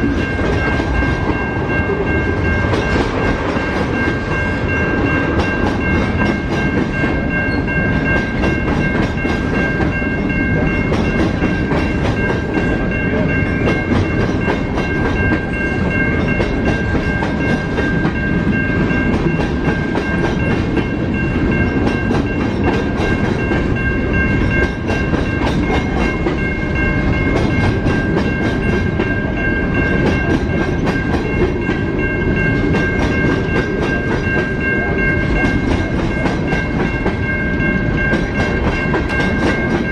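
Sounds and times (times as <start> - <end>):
train wheels clicking over joints: 0.0 - 39.9.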